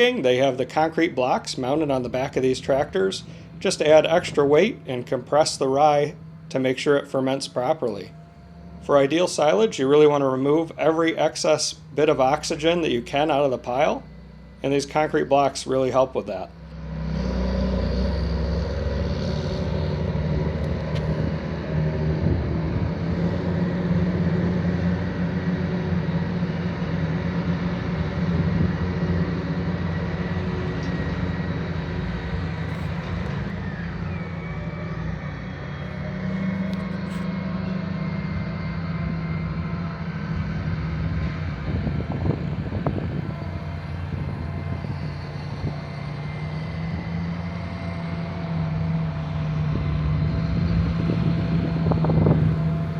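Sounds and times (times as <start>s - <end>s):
tractor diesel engines running: 0.0s - 52.9s.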